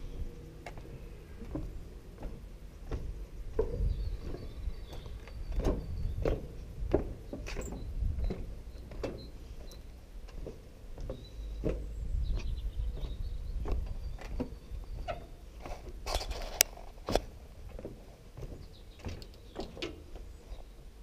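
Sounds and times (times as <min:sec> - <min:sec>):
steady low rumble: 0:00.0 - 0:19.0
footsteps on wooden planks: 0:00.6 - 0:21.0.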